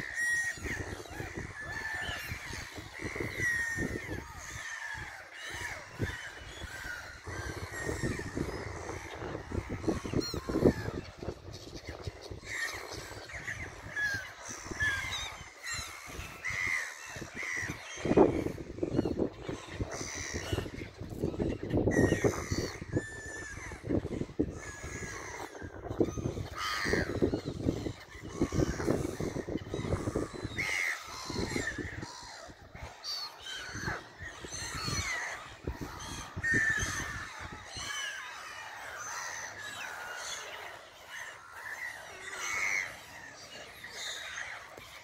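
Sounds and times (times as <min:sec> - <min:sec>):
gulls calling: 0:00.0 - 0:45.0.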